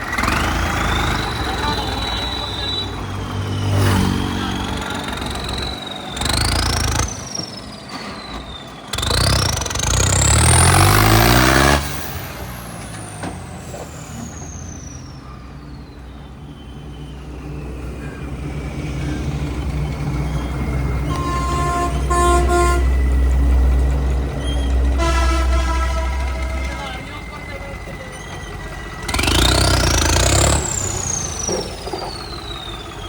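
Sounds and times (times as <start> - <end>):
tractor engine revving: 0.0 - 33.0.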